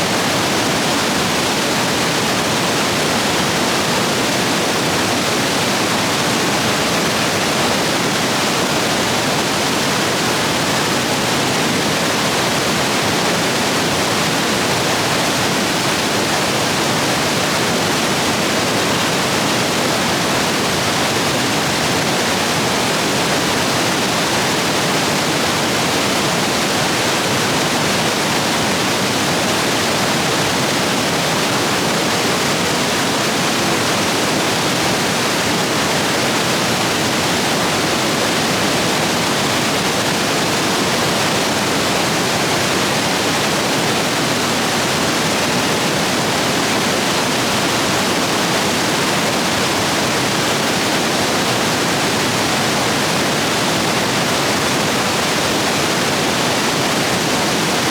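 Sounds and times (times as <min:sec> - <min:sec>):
stream rapids rushing: 0:00.0 - 0:57.9.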